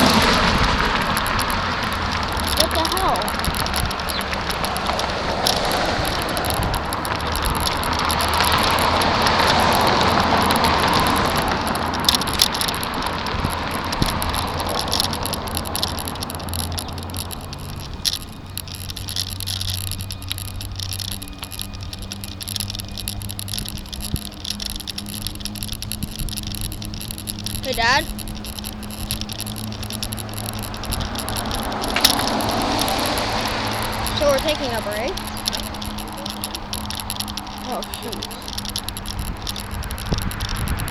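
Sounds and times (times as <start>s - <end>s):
wind rush: 0.0s - 18.6s, 21.8s - 40.9s
bicycle rattling over road: 0.0s - 40.9s
small clicks: 0.0s - 40.9s.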